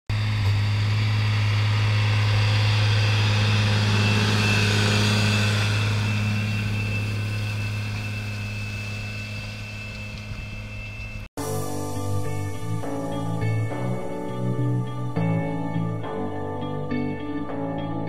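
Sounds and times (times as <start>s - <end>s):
tractor diesel engine running: 0.1s - 17.2s
high whine: 0.1s - 18.0s.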